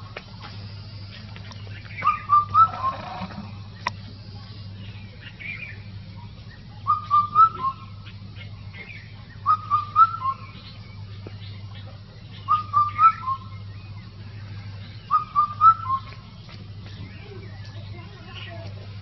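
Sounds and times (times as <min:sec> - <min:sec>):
cuckoo calling: 0:00.0 - 0:19.0
faint bird calls: 0:00.0 - 0:19.0
steady low hum: 0:00.0 - 0:19.0.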